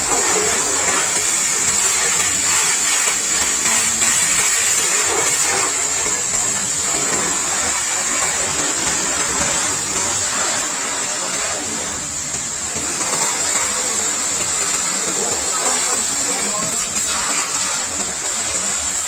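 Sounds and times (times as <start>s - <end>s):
pressure washer spraying: 0.0s - 19.0s.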